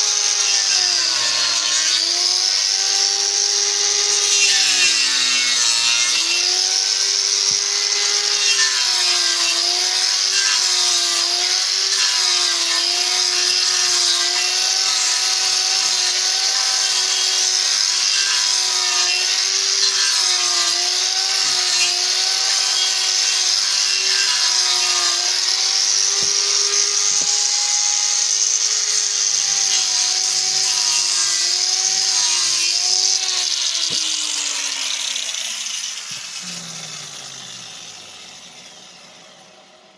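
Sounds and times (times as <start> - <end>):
power tool motor on wood: 0.0 - 39.9.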